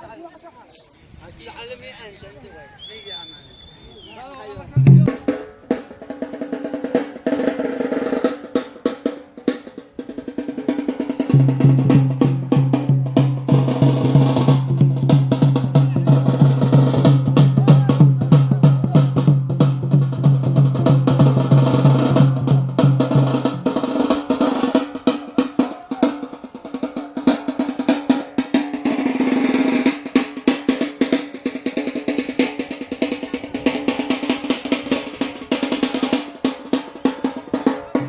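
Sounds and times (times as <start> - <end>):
fast dense drumming: 4.8 - 38.0.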